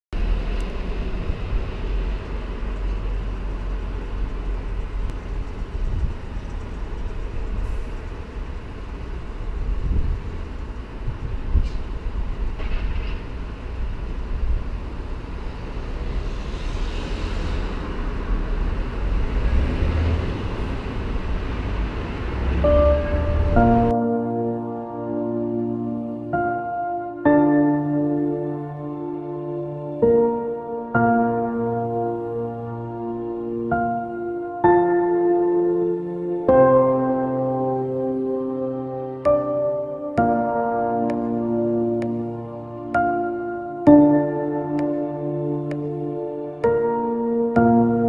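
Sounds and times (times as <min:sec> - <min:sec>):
low rumble of passing traffic: 0:00.1 - 0:48.0.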